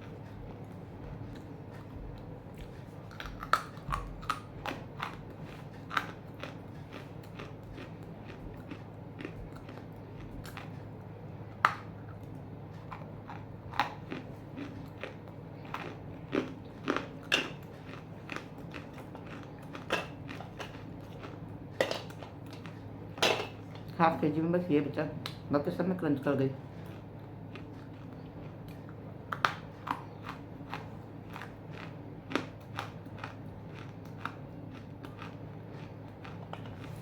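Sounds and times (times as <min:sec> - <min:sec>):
crunchy chewing: 0:00.0 - 0:24.0, 0:26.6 - 0:37.0.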